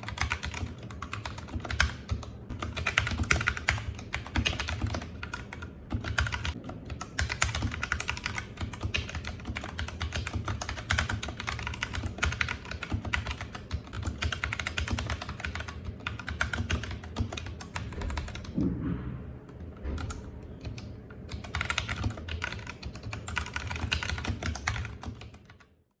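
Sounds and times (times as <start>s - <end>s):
mechanical keyboard typing: 0.0s - 18.6s, 19.5s - 25.8s.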